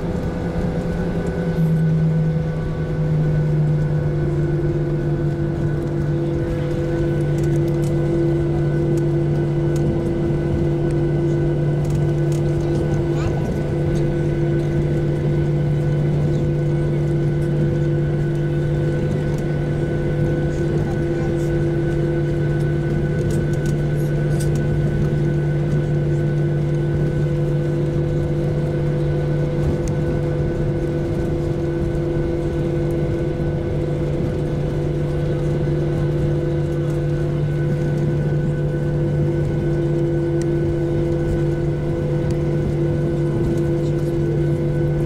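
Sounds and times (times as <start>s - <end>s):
jet engines droning in cabin: 0.0s - 45.0s.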